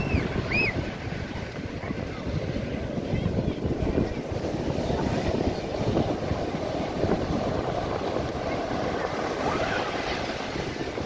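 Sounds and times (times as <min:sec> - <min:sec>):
storm surf breaking on beach: 0:00.0 - 0:11.0
wind rumbling on microphone: 0:00.0 - 0:11.0.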